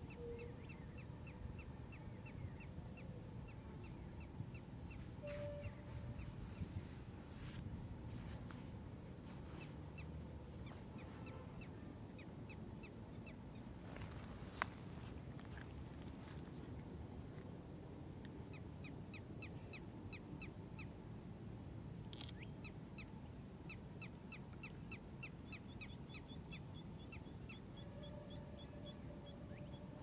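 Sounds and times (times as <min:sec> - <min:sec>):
low background hiss: 0:00.0 - 0:30.0.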